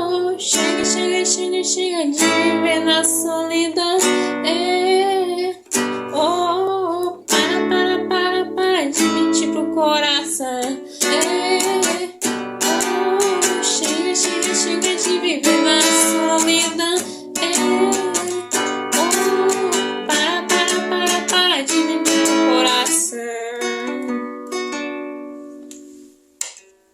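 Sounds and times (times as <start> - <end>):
acoustic guitar strumming chords: 0.0 - 26.6.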